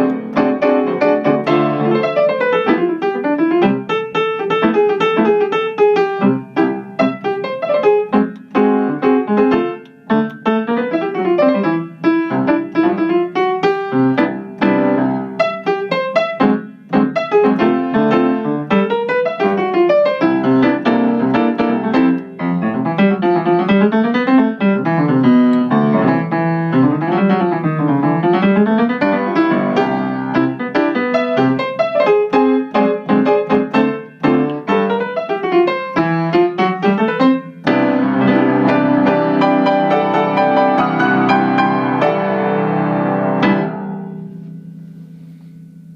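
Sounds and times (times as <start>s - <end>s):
piano playing: 0.0s - 45.9s.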